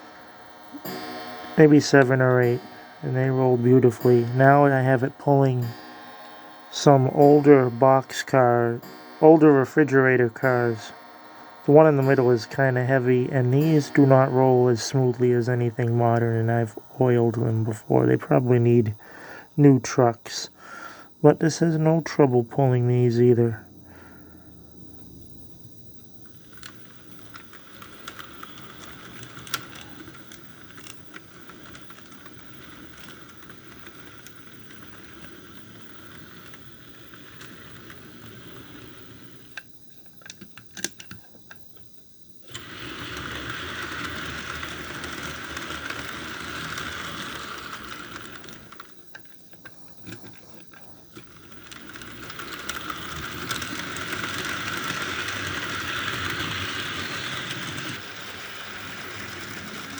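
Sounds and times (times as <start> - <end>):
model train motor whir: 0.0 - 17.1, 26.2 - 41.0, 42.4 - 59.9
wheels clicking over rail joints: 0.0 - 17.8, 26.2 - 41.3, 42.5 - 59.9.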